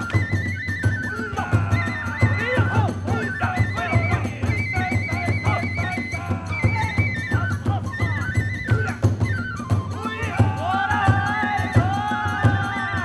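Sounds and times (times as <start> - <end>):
taiko drums beating: 0.0 - 12.8
high bamboo flute melody: 0.0 - 13.0.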